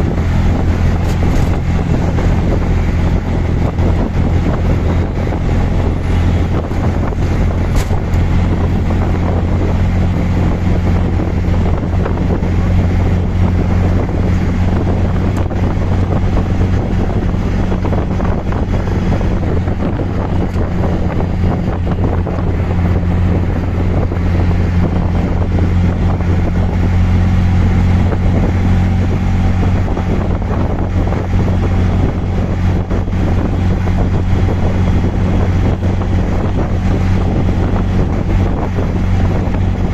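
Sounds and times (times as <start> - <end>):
rickshaw engine droning: 0.0 - 39.9
wind buffeting microphone: 0.0 - 39.9.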